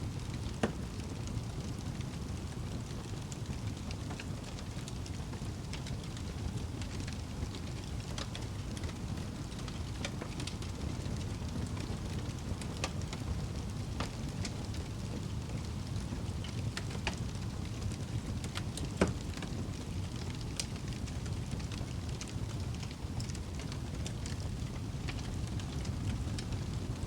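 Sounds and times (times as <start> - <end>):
fire crackling and popping: 0.0 - 27.0
fire rumbling in a fireplace: 0.0 - 27.0.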